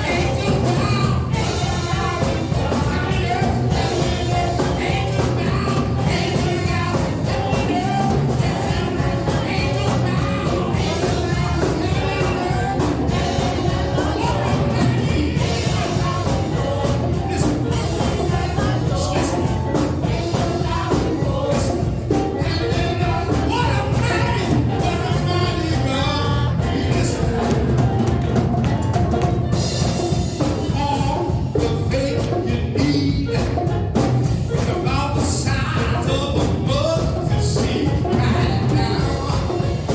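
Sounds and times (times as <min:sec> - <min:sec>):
singing over a band: 0:00.0 - 0:39.9
steady drum beat: 0:00.0 - 0:39.9.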